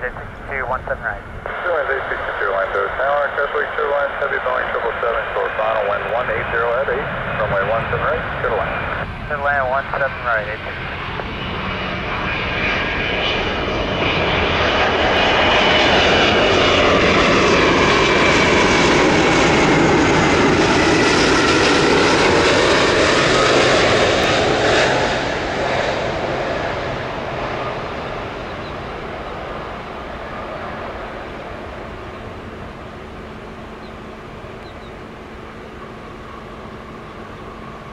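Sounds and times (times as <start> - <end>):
jet engines roaring overhead: 0.0 - 37.9.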